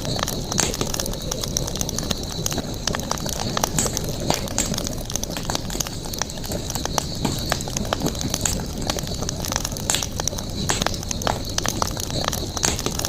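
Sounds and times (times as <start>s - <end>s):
campfire crackles and pops: 0.0s - 13.0s
low rumble of flame: 0.0s - 13.0s.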